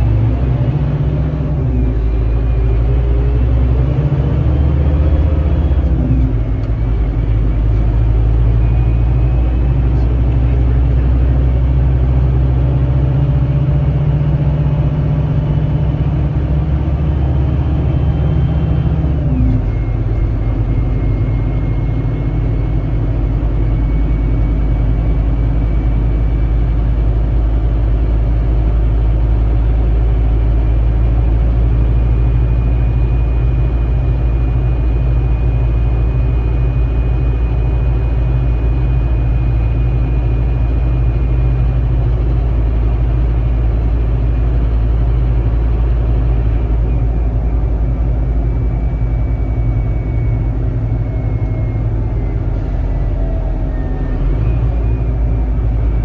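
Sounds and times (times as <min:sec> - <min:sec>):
bus diesel engine under load: 0:00.0 - 0:56.0.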